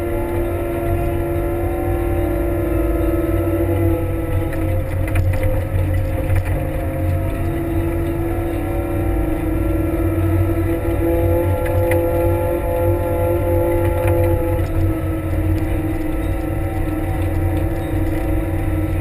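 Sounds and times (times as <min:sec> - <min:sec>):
diesel engine under load: 0:00.0 - 0:19.0
steady whine: 0:00.0 - 0:19.0.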